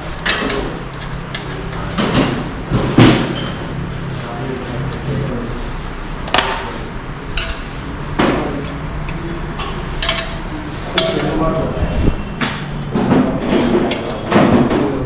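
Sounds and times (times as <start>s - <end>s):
workshop knocks and clanks: 0.0s - 5.2s, 6.1s - 15.0s.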